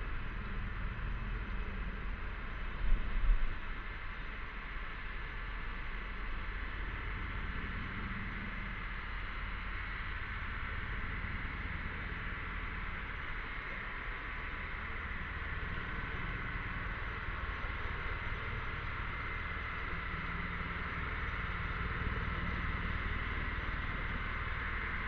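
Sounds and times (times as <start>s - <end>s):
cicadas droning: 3.8s - 25.0s.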